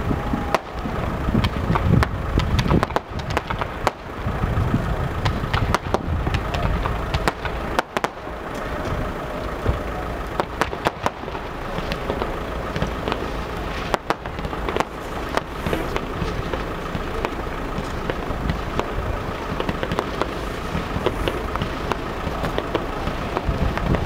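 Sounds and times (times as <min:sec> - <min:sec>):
fireworks bangs and crackles: 0:00.0 - 0:24.0
low rumbling noise: 0:00.0 - 0:24.0.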